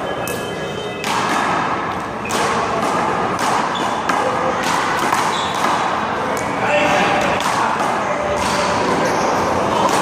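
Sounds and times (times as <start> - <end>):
handball slapping and bouncing: 1.0 - 10.0.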